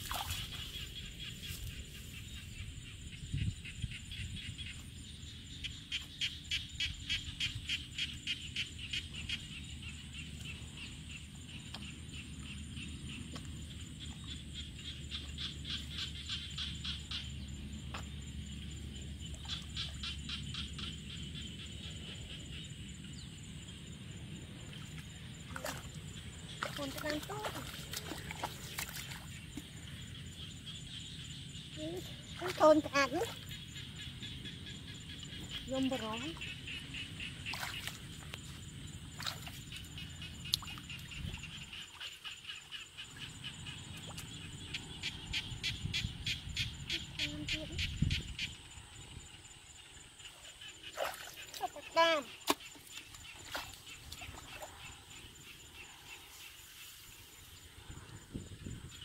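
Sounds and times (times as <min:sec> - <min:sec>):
insects chirping chorus: 0:00.0 - 0:59.0.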